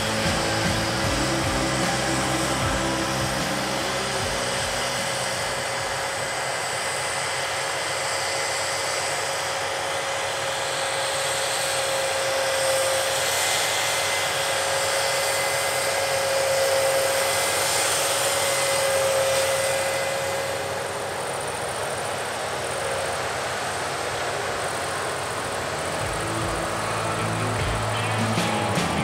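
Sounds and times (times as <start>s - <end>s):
high-pitched whine: 0.0s - 29.0s.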